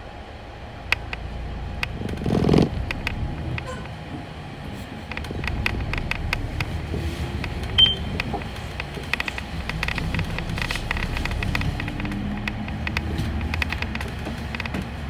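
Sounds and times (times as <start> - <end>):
engine and road rumble: 0.0 - 15.0
bus body rattling: 1.0 - 15.0.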